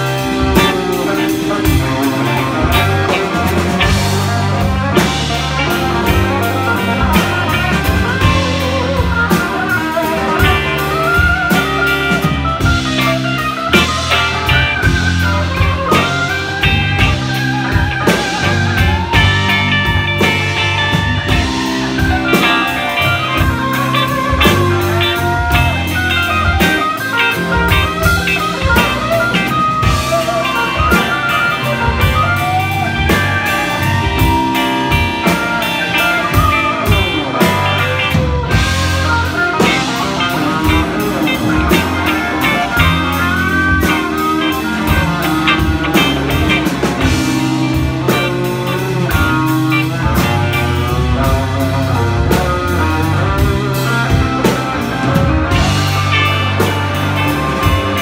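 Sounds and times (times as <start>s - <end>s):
bass line: 0.0s - 58.0s
drum kit: 0.0s - 58.0s
electric guitar with bent notes: 0.0s - 58.0s.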